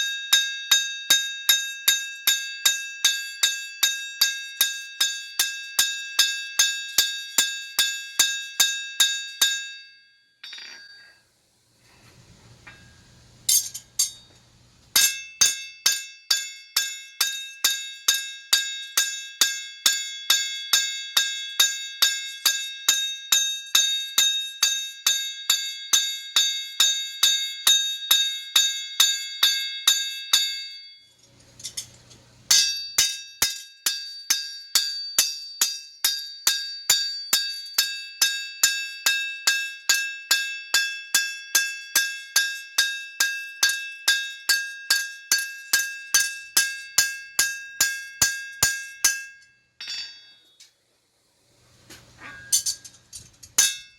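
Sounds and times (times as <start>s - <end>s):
hammer ringing on anvil: 0.0s - 11.2s, 12.7s - 14.3s, 15.0s - 31.0s, 32.5s - 50.6s, 52.2s - 53.0s, 53.6s - 53.9s.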